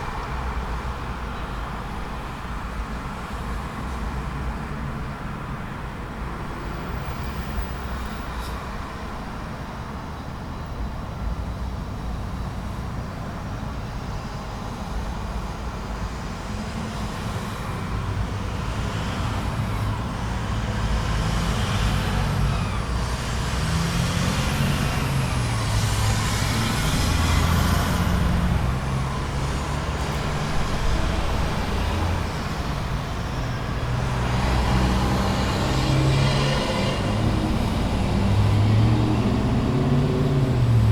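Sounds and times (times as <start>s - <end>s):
cars trucks and buses passing: 0.0s - 40.9s
low rumble of heavy engines: 0.0s - 40.9s.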